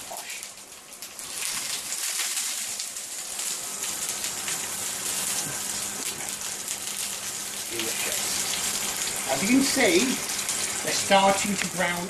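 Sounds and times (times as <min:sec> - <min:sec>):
shallots sizzling in oil: 0:01.1 - 0:12.0.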